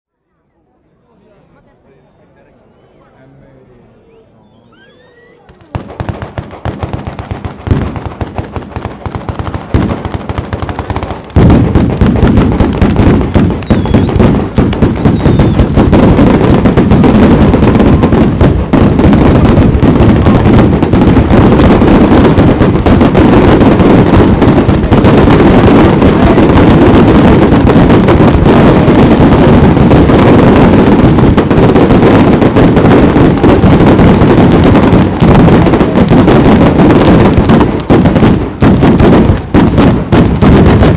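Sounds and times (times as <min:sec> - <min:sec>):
firecrackers banging: 0:03.9 - 0:40.9.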